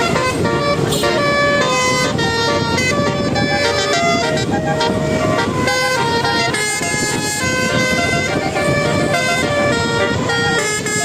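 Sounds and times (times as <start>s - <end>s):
multi-tone air horn playing a tune: 0.0s - 11.0s
steady low rumble: 0.0s - 11.0s.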